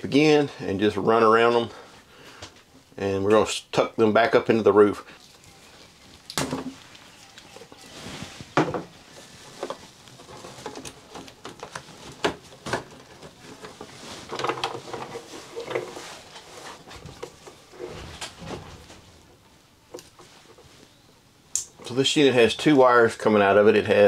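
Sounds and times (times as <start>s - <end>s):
wires rustling: 0.0s - 23.9s.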